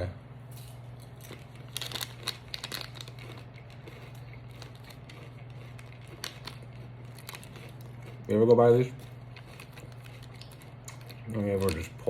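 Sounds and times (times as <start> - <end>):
low room hum: 0.0 - 12.0
candy crunching: 0.6 - 12.0.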